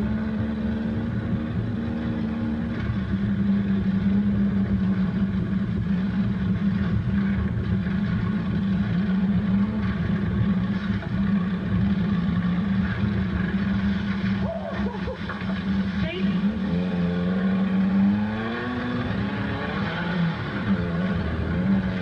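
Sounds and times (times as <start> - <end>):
dune buggy engine droning: 0.0 - 22.0
rough rumble over dirt trail: 0.0 - 22.0.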